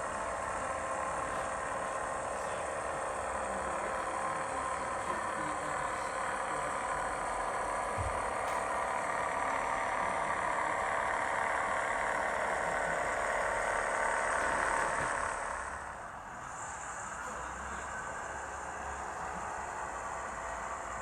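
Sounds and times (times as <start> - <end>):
model train diesel engine sound: 0.0 - 21.0.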